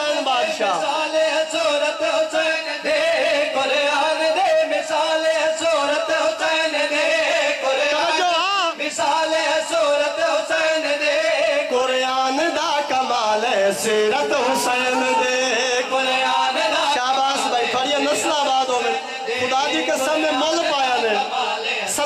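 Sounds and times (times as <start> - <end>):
man singing through loudspeaker: 0.0 - 22.0.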